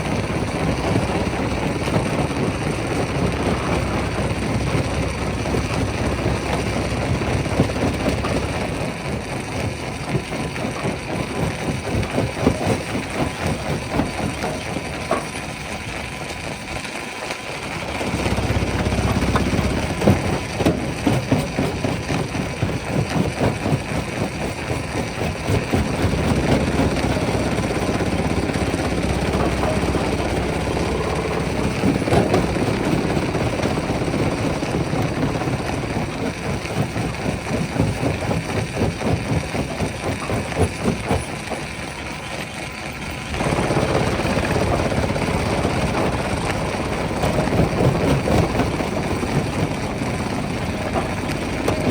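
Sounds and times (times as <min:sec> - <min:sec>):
engine drone: 0:00.0 - 0:51.9.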